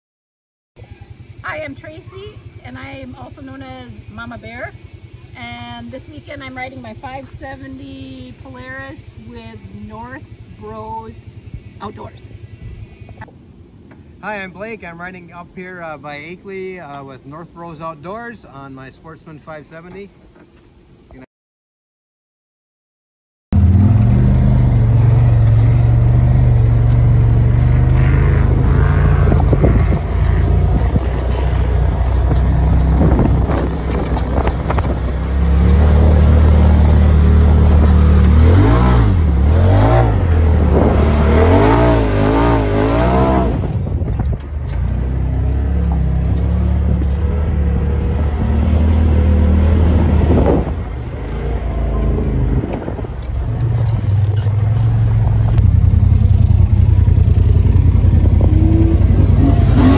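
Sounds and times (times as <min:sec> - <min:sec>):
off-road vehicle engine running: 0:00.8 - 0:21.2, 0:23.5 - 0:59.9.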